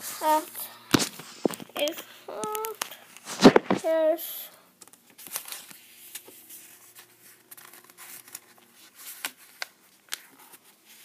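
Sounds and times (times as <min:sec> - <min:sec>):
paper sheets rustling: 0:00.2 - 0:04.0, 0:04.8 - 0:11.0.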